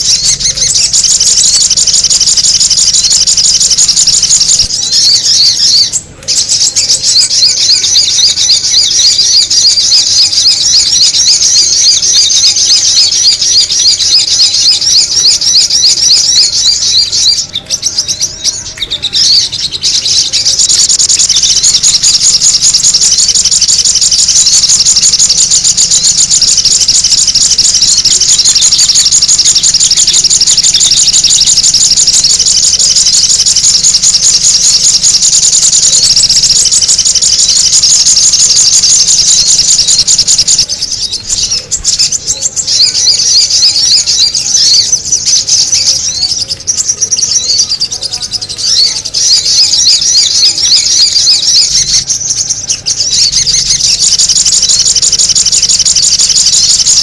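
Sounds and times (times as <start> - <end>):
rapid high bird chirps: 0.0 - 57.0.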